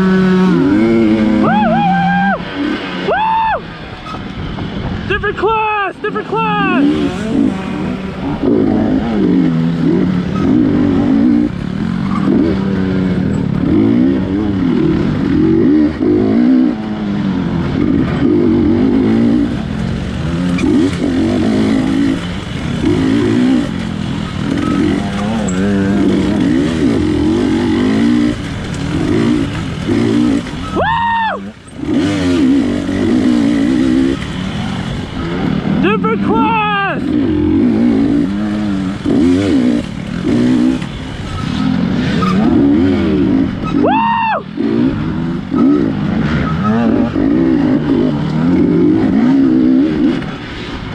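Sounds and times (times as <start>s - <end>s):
dirt bike engine revving: 0.0s - 3.1s, 6.0s - 50.9s.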